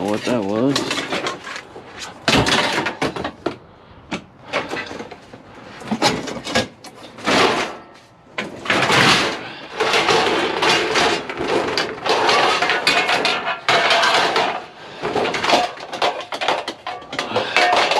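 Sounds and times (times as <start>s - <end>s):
scrap metal clattering: 0.0s - 3.6s, 4.4s - 17.9s.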